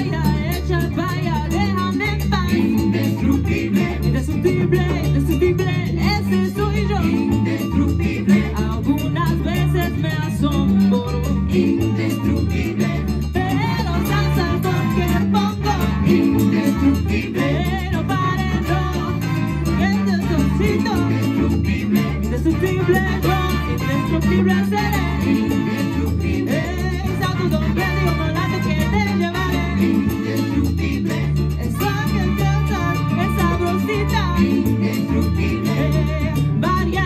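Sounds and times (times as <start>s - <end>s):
live salsa band playing: 0.0s - 37.0s.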